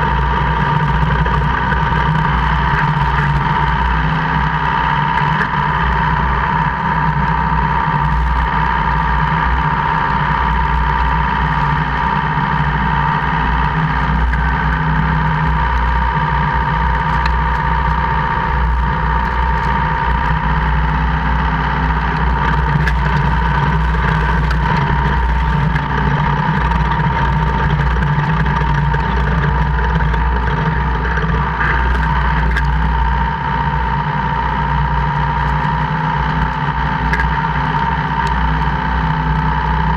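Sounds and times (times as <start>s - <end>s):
high whine: 0.0s - 39.9s
vehicle drivetrain drone: 0.0s - 39.9s.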